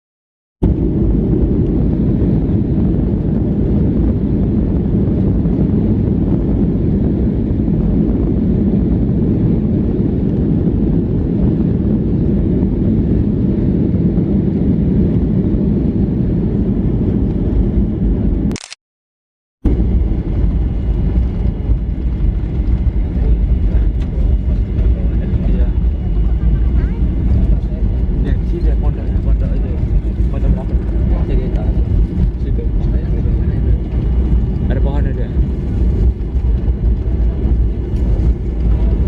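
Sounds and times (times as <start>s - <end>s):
aircraft cabin engine rumble: 0.6s - 18.7s, 19.7s - 39.0s.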